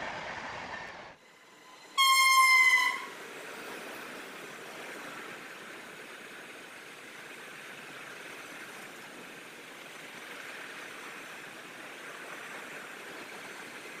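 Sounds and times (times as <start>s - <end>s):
freight train wheels on rails: 0.0s - 14.0s.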